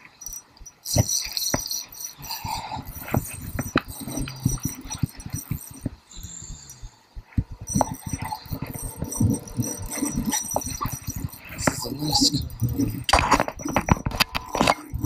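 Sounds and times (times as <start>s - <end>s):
fishing rod and reel handling: 0.0s - 6.0s, 7.5s - 15.0s.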